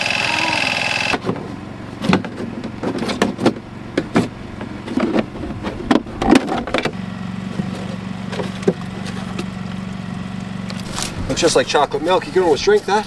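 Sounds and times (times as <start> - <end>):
excavator engine running: 0.0 - 13.0
sharp knocks and clanks: 1.1 - 13.0.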